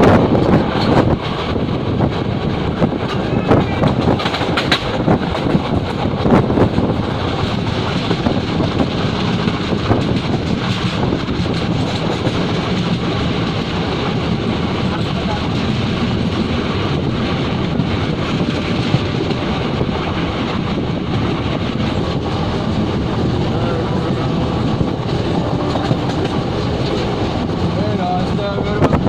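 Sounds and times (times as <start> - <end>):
train rumbling on rails: 0.0 - 29.0
wheel clacks over rail joints: 0.0 - 29.0.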